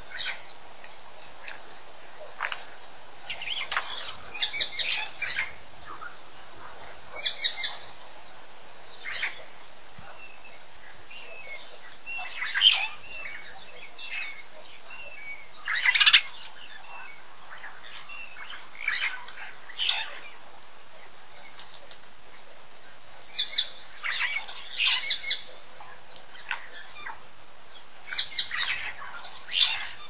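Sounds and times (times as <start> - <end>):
birds chirping: 0.0 - 30.0
steady hiss: 0.0 - 30.0.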